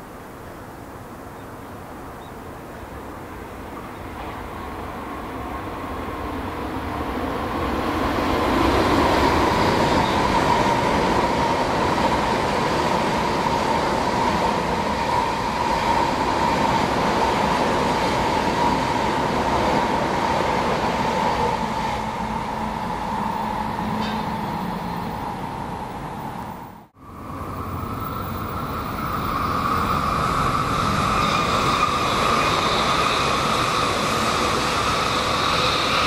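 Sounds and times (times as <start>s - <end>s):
train passing rumble: 2.7s - 36.0s.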